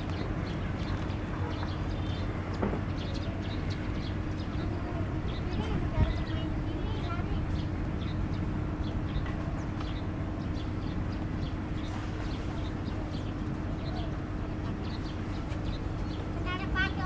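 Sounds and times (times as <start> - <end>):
birds chirping: 0.0 - 17.0
distant diesel locomotive rumble: 0.0 - 17.0.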